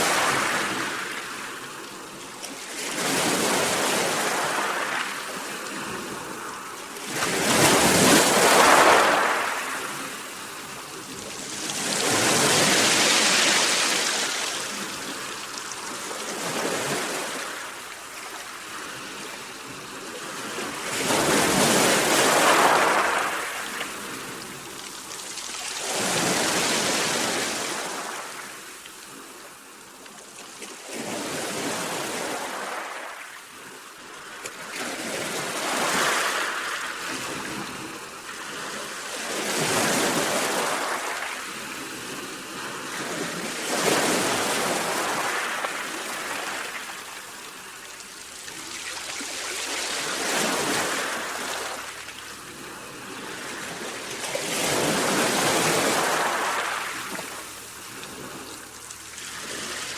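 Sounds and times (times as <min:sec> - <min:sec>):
sea waves washing in: 0:00.0 - 0:29.8, 0:34.7 - 0:59.9.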